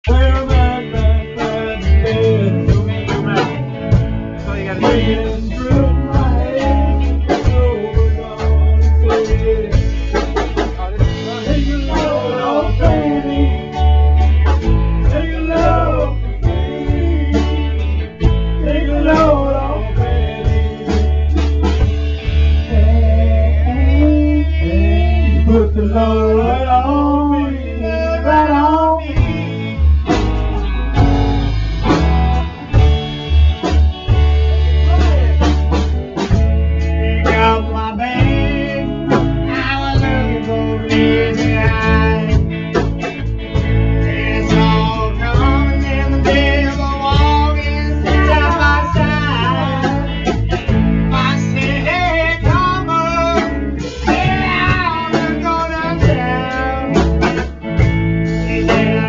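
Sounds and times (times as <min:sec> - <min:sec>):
man singing: 0:00.0 - 0:31.1, 0:36.2 - 0:59.0
drum kit: 0:00.0 - 0:59.0
electric guitars: 0:00.0 - 0:59.0
heavy low bass: 0:00.0 - 0:59.0.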